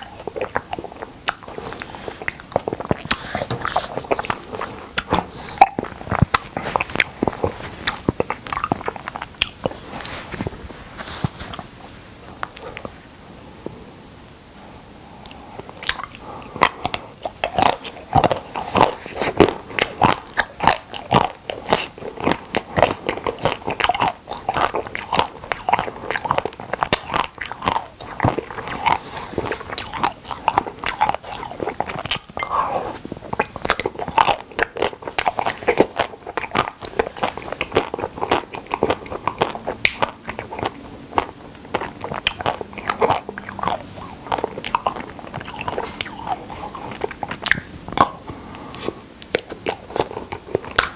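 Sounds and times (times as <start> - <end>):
crunching and chewing ice cream: 0.0 - 13.0, 15.1 - 50.9.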